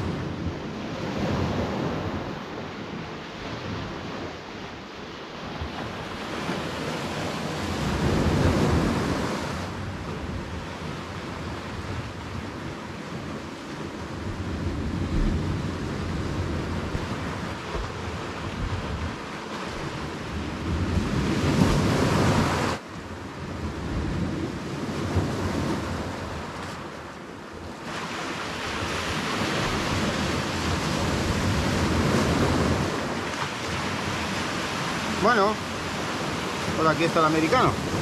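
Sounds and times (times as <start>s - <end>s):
sea waves washing: 0.0s - 38.0s
wind buffeting microphone: 0.0s - 38.0s.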